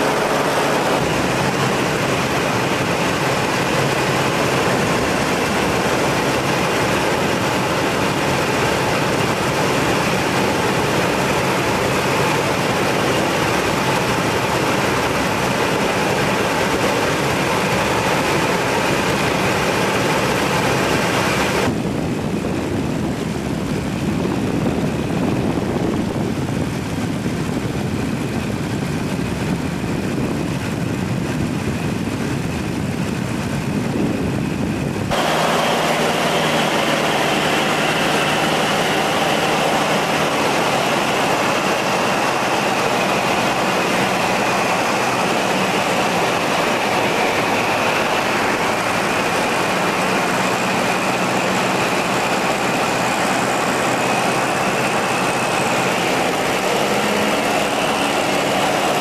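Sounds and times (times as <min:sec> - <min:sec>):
propeller aircraft engine running: 0:00.0 - 0:59.0.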